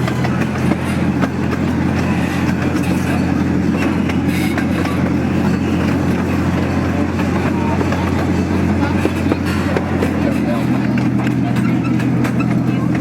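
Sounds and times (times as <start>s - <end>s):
miniature train rumbling: 0.0s - 13.0s.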